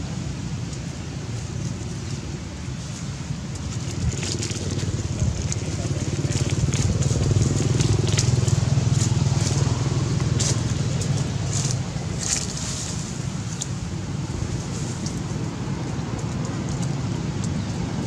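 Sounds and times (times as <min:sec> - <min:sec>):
dry leaves crackling: 0:00.8 - 0:18.0.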